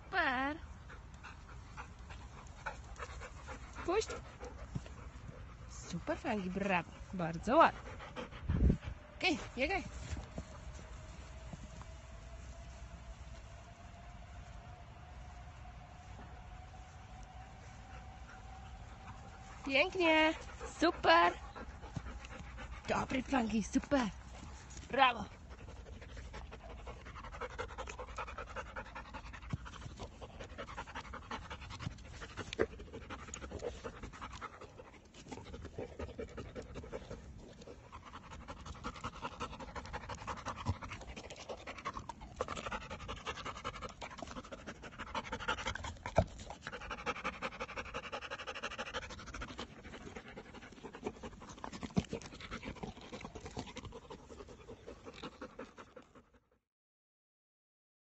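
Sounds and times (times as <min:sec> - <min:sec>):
dog panting: 0:00.1 - 0:12.2, 0:17.6 - 0:56.6.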